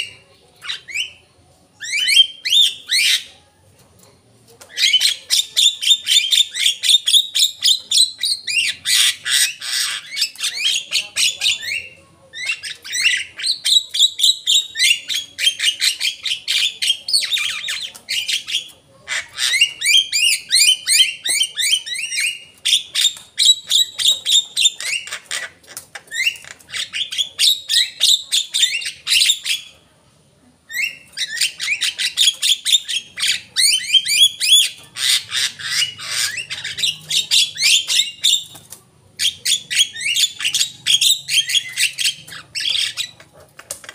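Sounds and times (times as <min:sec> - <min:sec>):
myna singing chattering squawks: 0:01.8 - 0:03.3, 0:04.6 - 0:29.8, 0:30.7 - 0:43.9.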